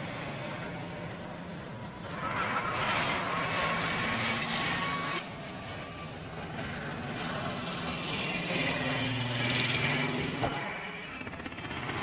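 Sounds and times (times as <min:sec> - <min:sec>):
street traffic engine noise: 0:00.0 - 0:12.0.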